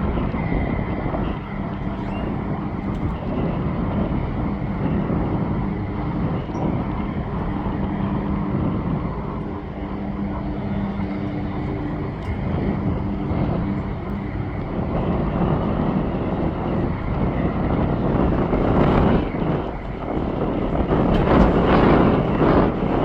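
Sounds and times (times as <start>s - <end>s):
jet engine roar: 0.0s - 23.0s
low steady hum: 0.0s - 23.0s.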